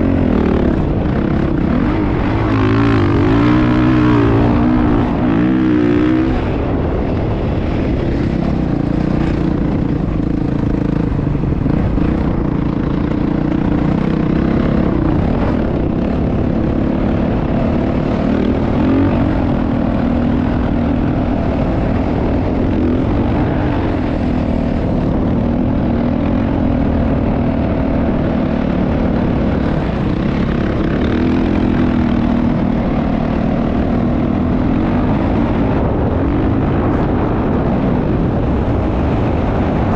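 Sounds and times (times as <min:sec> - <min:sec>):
motocross bike engine running: 0:00.0 - 0:39.9.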